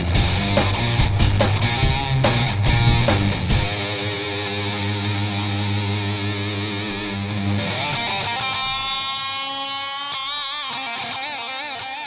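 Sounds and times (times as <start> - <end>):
distorted electric guitar: 0.0 - 12.0.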